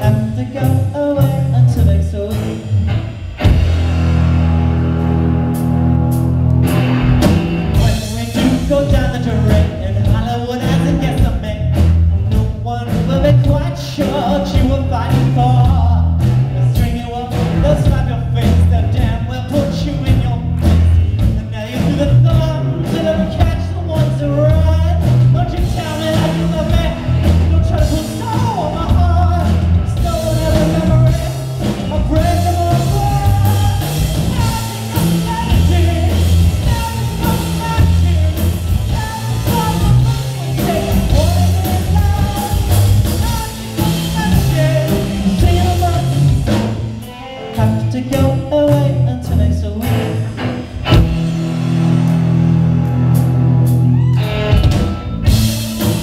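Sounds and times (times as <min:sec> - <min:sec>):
man singing: 0:00.0 - 0:02.8, 0:07.7 - 0:50.6
live rock band playing: 0:00.0 - 0:56.0.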